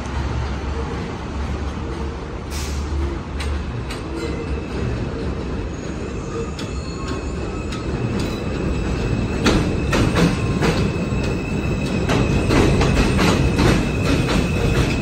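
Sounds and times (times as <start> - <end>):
train wheel whine: 0.1 - 15.0.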